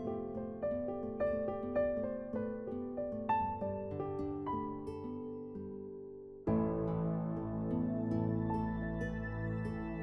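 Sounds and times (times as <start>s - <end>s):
soft chordal accompaniment: 0.0s - 10.0s.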